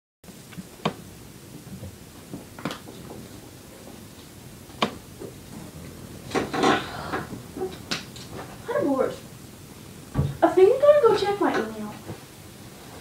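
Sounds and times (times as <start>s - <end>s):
faint room hiss: 0.3s - 13.0s.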